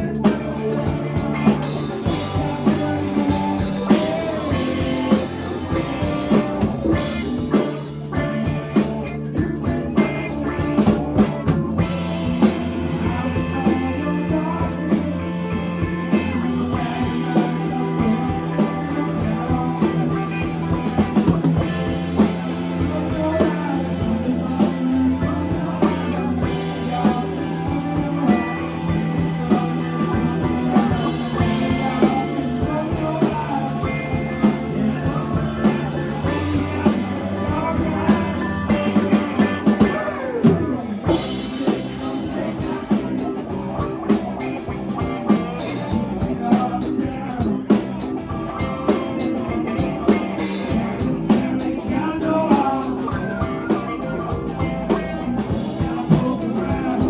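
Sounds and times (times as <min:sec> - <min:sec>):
drum kit beat: 0:00.0 - 0:57.0
live rock band playing: 0:00.0 - 0:57.0.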